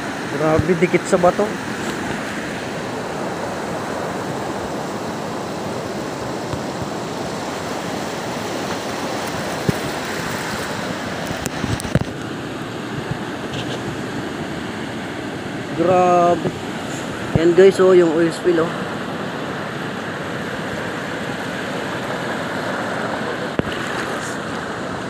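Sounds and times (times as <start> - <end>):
surf washing on pebbles: 0.0 - 25.0.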